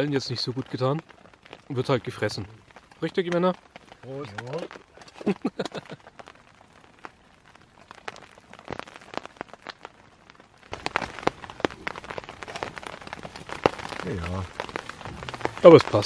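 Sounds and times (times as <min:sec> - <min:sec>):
raindrops tapping on tarp: 0:00.0 - 0:16.0.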